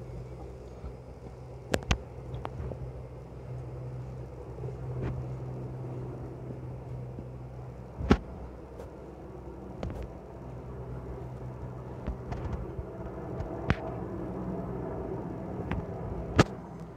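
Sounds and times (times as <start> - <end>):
distant helicopter rumble: 0.0 - 16.9.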